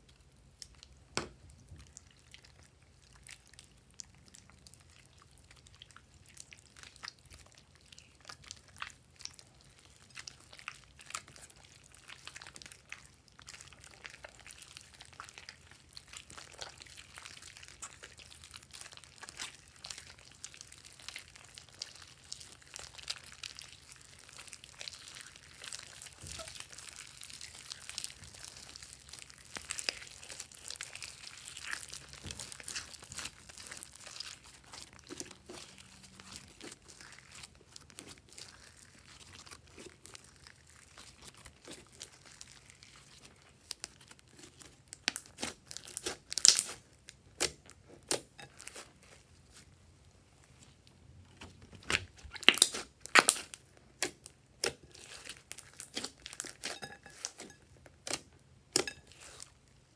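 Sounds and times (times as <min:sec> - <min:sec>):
slime squishing and crackling: 0:00.0 - 0:59.9.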